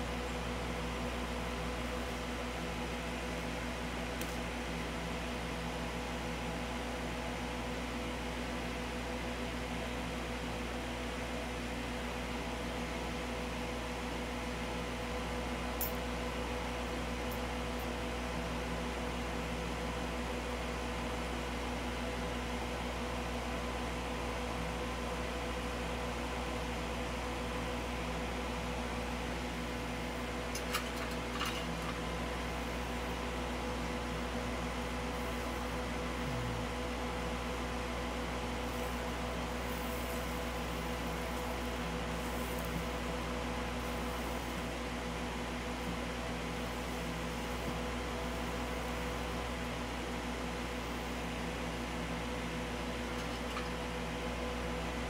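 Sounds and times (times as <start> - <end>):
electrical hum with fan hiss: 0.0 - 55.0.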